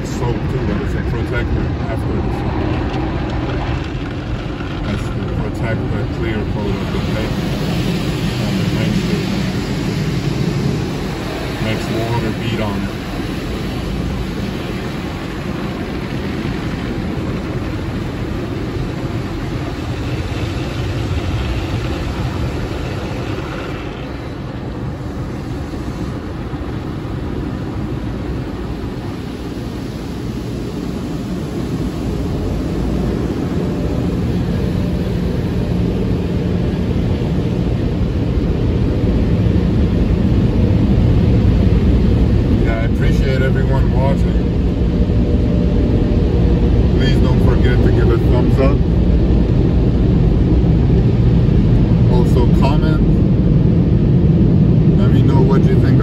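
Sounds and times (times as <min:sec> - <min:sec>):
car wash machinery drone: 0:00.0 - 0:56.0
water spraying over car: 0:00.0 - 0:56.0.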